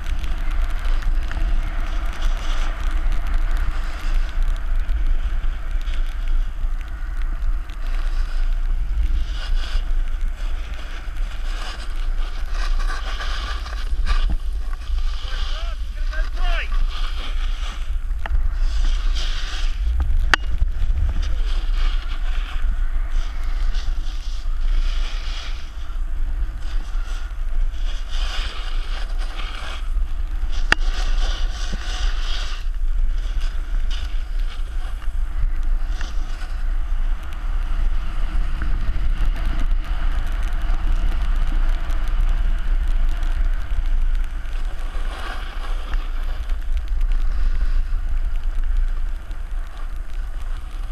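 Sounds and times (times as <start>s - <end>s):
snow scraping under rider: 0.0s - 50.9s
wind buffeting microphone: 0.0s - 50.9s.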